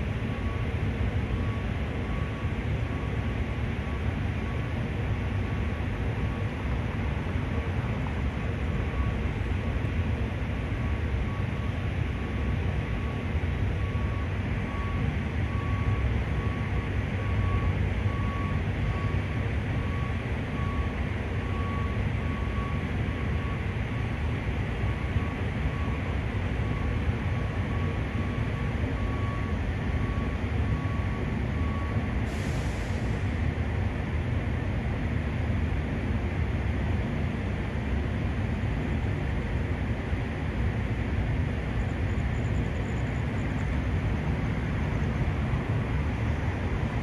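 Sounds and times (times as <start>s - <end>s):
low city rumble: 0.0s - 47.0s.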